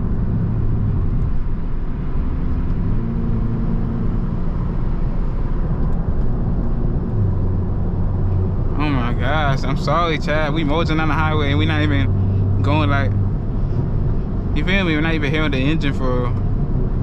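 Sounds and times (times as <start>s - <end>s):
faint engine hum: 0.0s - 17.0s
road and tyre rumble: 0.0s - 17.0s.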